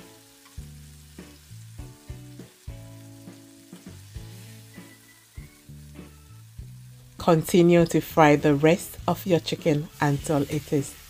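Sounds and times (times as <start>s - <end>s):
chicken sizzling in oil: 0.0s - 11.0s
soft background music: 0.0s - 11.0s.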